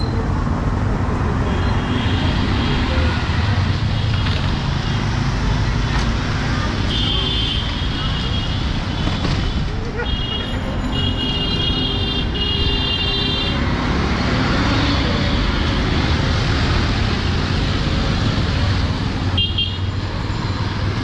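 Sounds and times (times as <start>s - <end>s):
auto-rickshaw engines: 0.0s - 21.0s.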